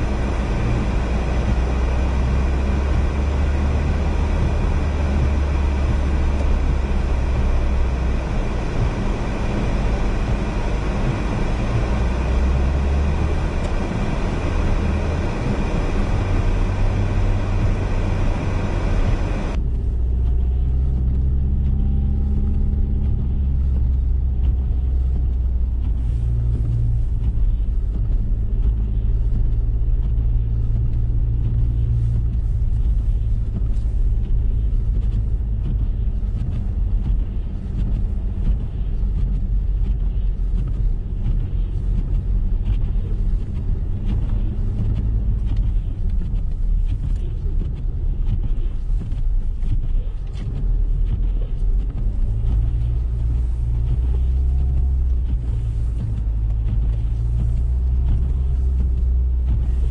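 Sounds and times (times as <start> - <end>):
engine and tyre rumble: 0.0 - 59.9.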